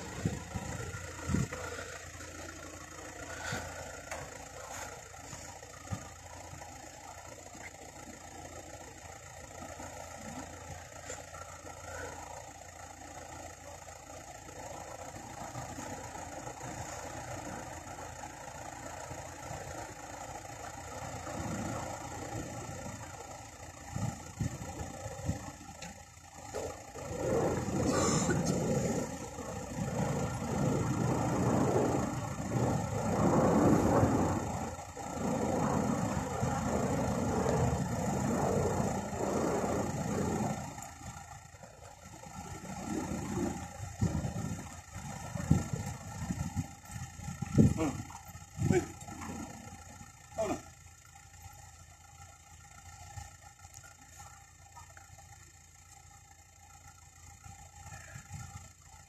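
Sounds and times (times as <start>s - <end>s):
low rumble: 0.0s - 58.8s
vehicle engines idling and passing: 0.0s - 59.0s.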